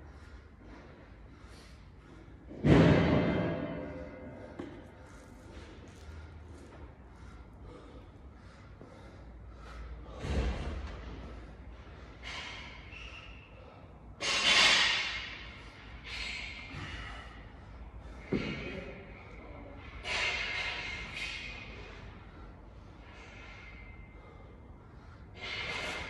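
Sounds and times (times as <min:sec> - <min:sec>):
man breathing hard: 0:00.0 - 0:26.0.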